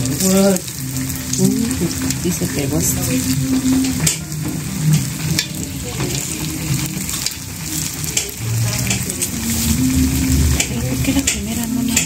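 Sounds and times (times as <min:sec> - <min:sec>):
deep-frying sizzle with pops: 0:00.0 - 0:12.0.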